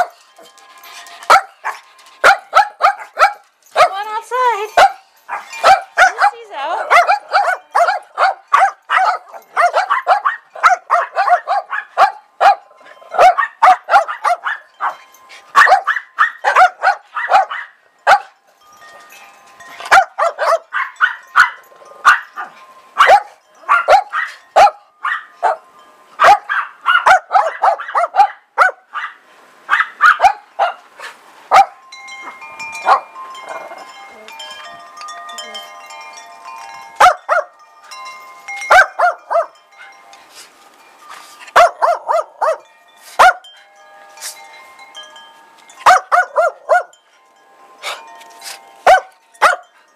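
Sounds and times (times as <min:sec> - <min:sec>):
wind chimes ringing: 0:00.0 - 0:28.3, 0:30.5 - 0:49.9.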